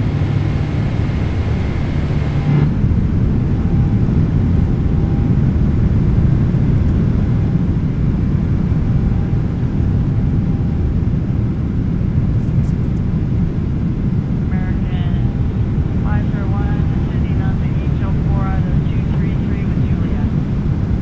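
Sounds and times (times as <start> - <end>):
jet engine rumble in cabin: 0.0 - 21.0.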